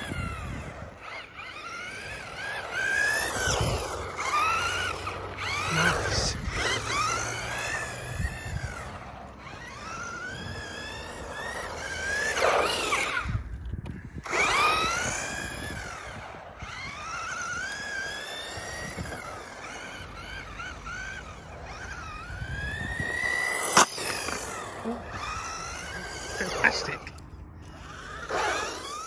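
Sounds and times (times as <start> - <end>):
electric motor whine: 0.0 - 29.0.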